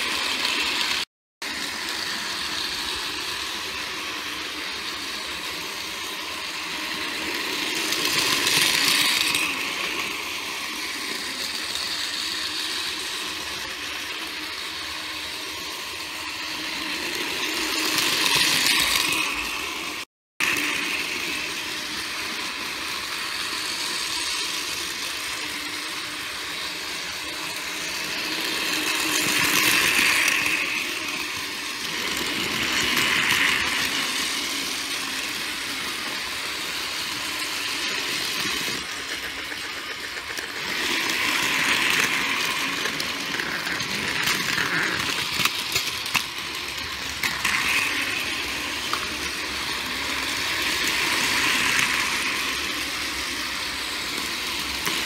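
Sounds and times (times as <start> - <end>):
toy train motor whir: 0.0 - 55.0
toy train wheel clatter: 0.0 - 55.0.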